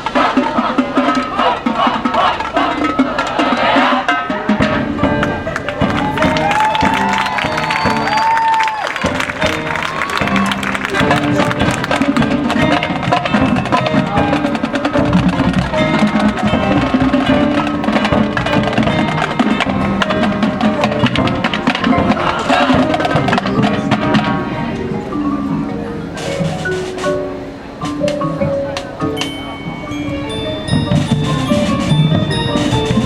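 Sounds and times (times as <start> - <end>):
marching band playing: 0.0 - 33.0
sharp percussion strokes: 0.0 - 33.0.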